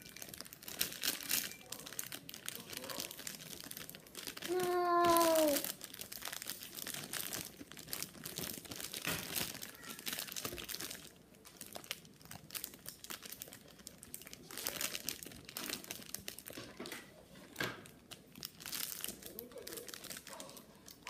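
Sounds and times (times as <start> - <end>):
plastic packaging crinkling: 0.0 - 17.0, 17.6 - 21.0.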